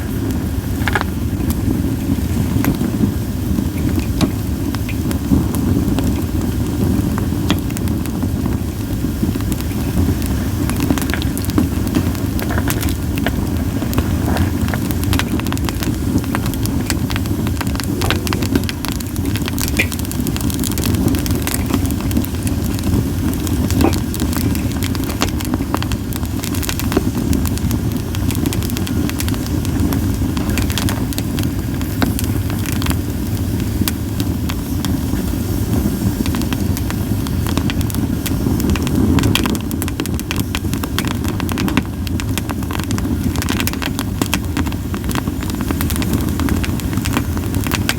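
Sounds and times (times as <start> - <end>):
campfire crackling and popping: 0.0 - 47.9
steady low rumble: 0.0 - 47.9.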